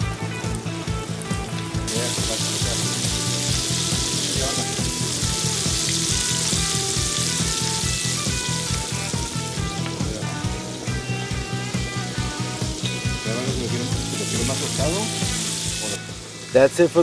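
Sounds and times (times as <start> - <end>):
background music with steady beat: 0.0 - 17.0
oil sizzling: 0.0 - 17.0.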